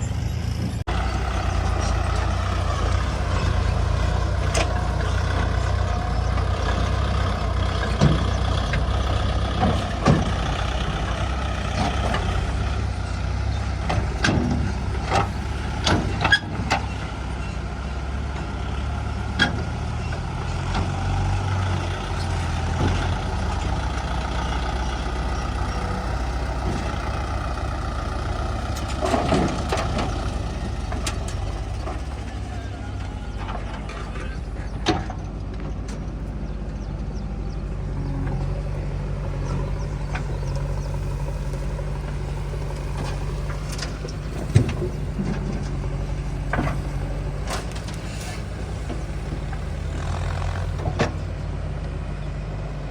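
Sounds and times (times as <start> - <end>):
heavy machinery diesel engine: 0.0 - 52.9.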